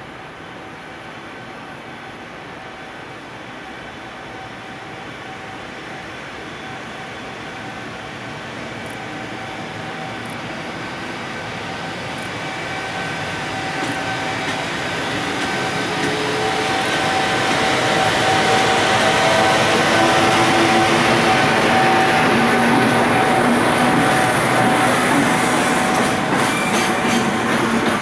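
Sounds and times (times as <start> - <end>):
electric locomotive humming: 0.1 - 28.0.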